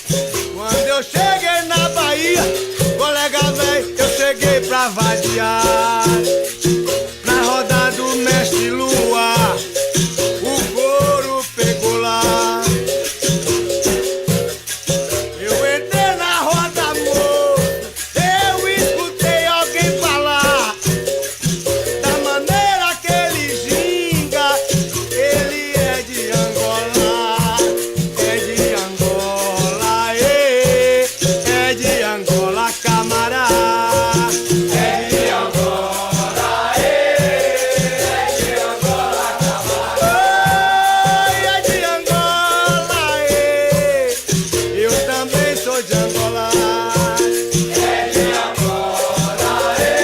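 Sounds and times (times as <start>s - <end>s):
voices singing: 0.0s - 13.1s, 15.3s - 21.1s, 21.9s - 50.0s
shaken rattle: 0.0s - 50.0s.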